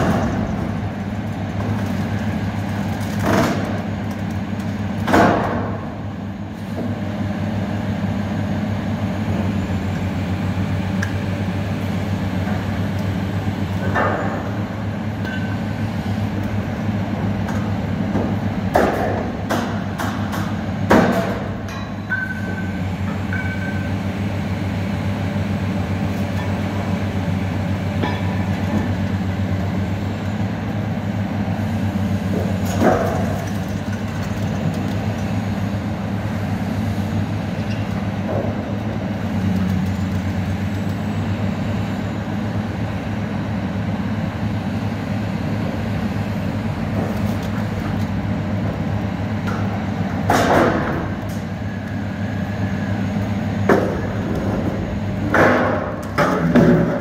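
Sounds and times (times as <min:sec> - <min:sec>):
excavator engine rumbling: 0:00.0 - 0:57.0.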